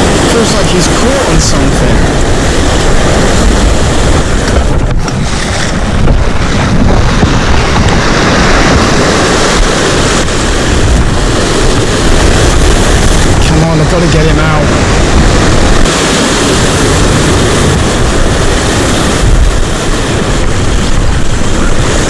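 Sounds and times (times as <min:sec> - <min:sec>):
strong wind buffeting microphone: 0:00.0 - 0:22.0
waves on rocky shore: 0:00.0 - 0:22.0.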